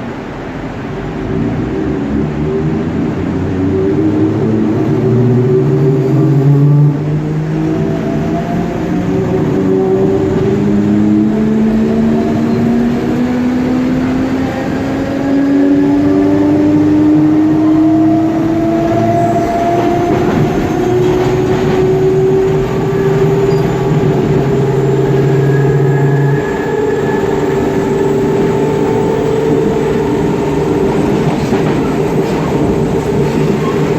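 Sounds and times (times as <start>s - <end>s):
wheels rumbling on rails: 0.0s - 33.9s
electric train motors humming: 3.0s - 33.9s.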